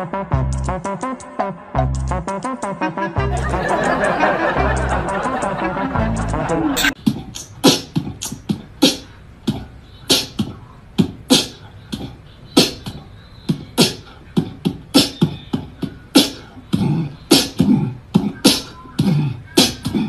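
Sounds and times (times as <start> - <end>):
person beatboxing: 0.0 - 3.6, 4.6 - 20.0.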